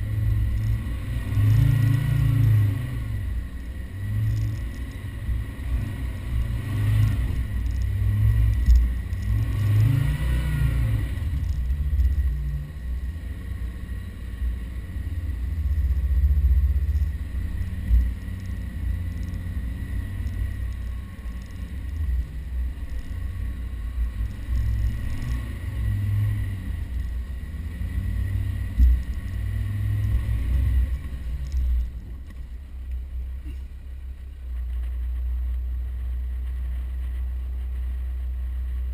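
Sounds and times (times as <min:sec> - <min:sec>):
heavy low rumble: 0:00.0 - 0:38.9
off-road vehicle engine revving: 0:00.0 - 0:38.9.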